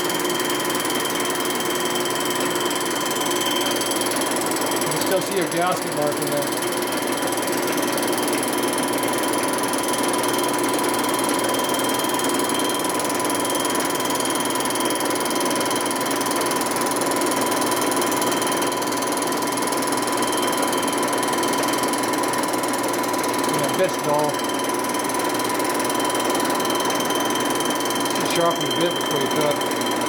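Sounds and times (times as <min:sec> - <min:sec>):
metal-cutting machine whine: 0:00.0 - 0:30.0.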